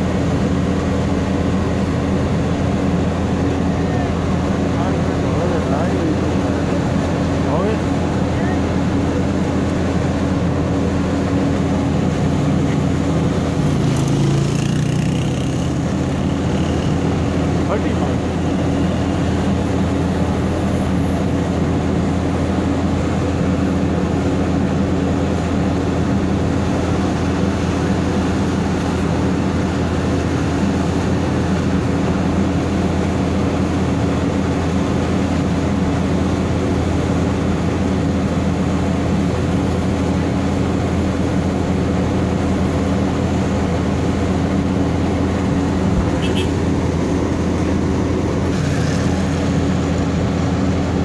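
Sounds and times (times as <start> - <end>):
diesel engine droning: 0.0 - 51.0.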